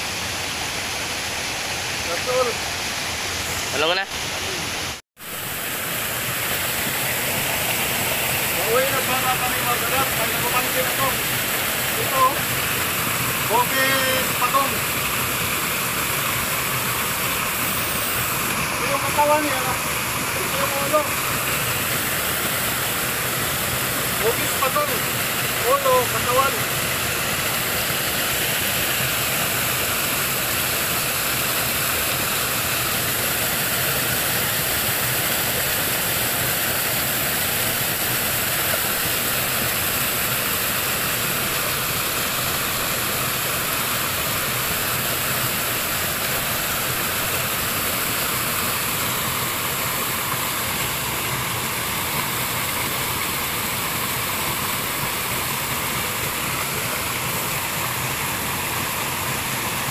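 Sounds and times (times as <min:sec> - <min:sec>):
waterfall pouring over rocks: 0:00.0 - 0:59.9.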